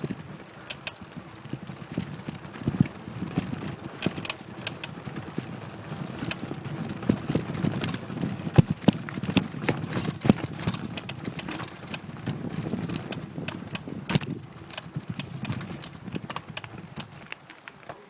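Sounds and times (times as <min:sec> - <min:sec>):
rapid clicks and knocks: 0:00.0 - 0:17.7.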